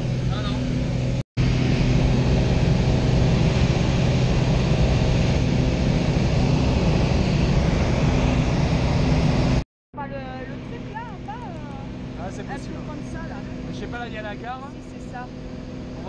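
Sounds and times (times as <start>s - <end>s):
small plane engine and propeller drone: 0.0s - 16.0s.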